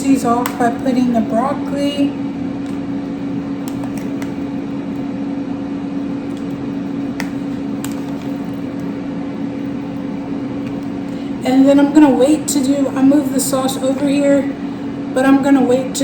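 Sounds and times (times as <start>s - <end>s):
kitchen appliance humming: 0.0s - 16.0s.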